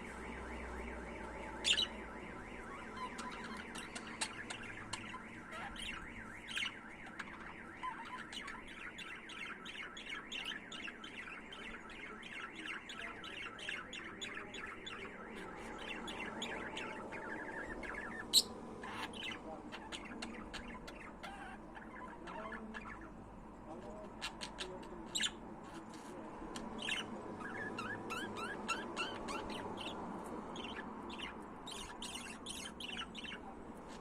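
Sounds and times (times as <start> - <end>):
sharp bird calls: 0.0 - 23.2, 24.2 - 33.5
budgerigars chirping and warbling: 0.6 - 34.0.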